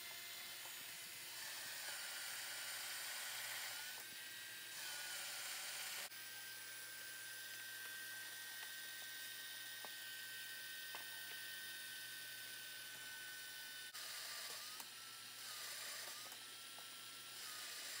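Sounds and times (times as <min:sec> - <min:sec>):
drill press whine: 0:00.0 - 0:18.0.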